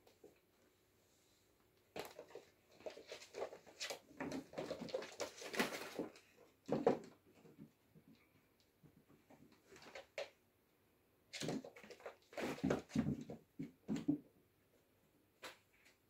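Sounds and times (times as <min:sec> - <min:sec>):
kittens play-wrestling on rug: 0:00.0 - 0:10.4, 0:11.3 - 0:14.3.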